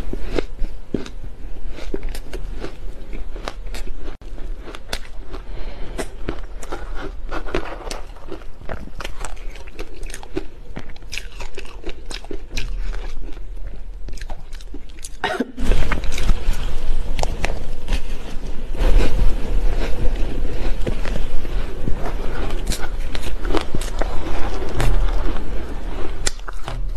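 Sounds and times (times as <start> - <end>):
crunching and chewing ice: 0.0 - 26.9.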